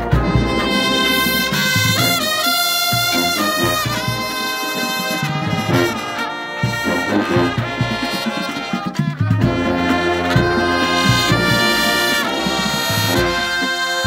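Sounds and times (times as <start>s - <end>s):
brass horn line playing chords: 0.0s - 14.0s.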